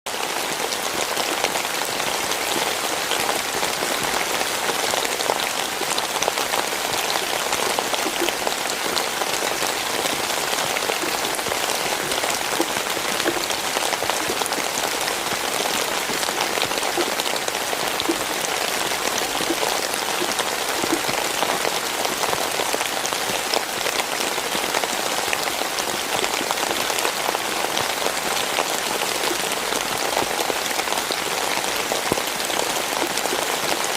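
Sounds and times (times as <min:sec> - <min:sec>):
heavy rain on hard surfaces: 0:00.1 - 0:33.9.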